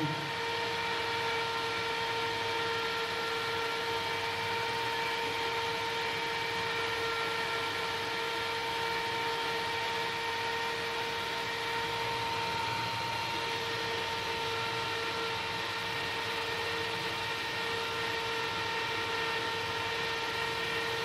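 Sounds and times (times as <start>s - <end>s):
computer fan whirring: 0.0s - 21.0s.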